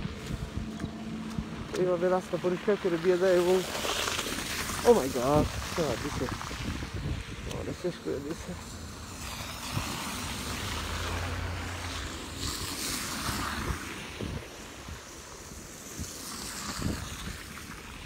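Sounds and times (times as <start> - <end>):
cars passing through slush: 0.0 - 18.0.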